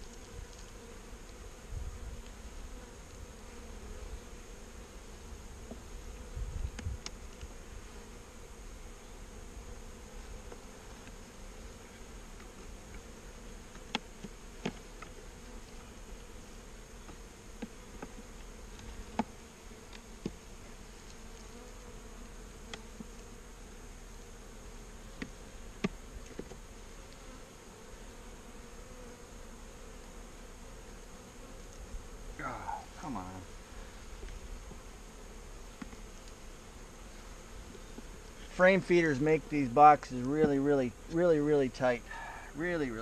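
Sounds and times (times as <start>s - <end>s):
honey bees buzzing: 0.0s - 43.0s.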